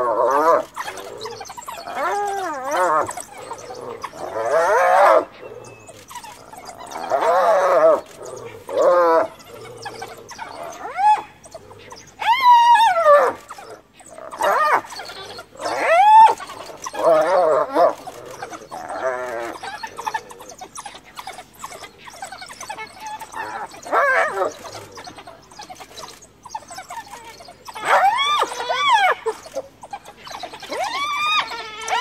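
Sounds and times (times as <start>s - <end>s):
hyena distress calls: 0.0s - 32.0s.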